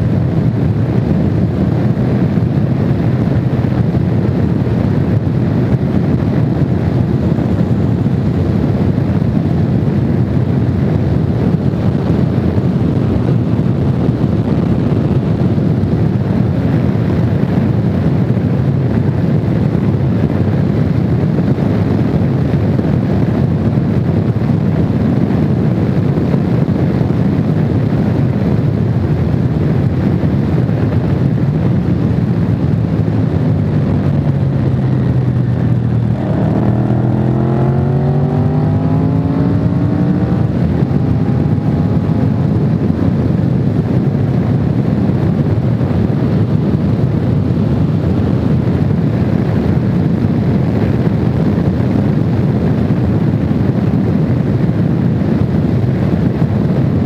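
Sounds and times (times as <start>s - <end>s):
motorcycle running: 0.0s - 57.0s
wind rushing on microphone: 0.0s - 57.0s.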